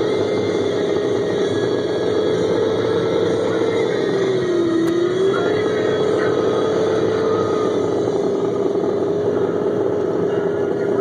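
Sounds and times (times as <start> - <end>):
truck engine whining: 0.0 - 11.0.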